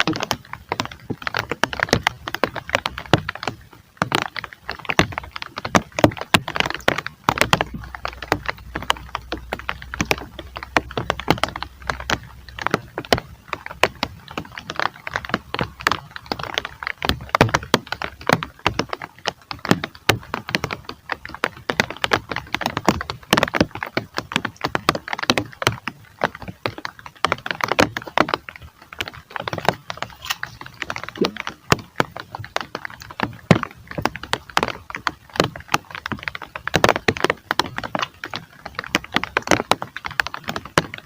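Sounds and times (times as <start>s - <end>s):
heavy rain on hard surface: 0.0s - 41.0s.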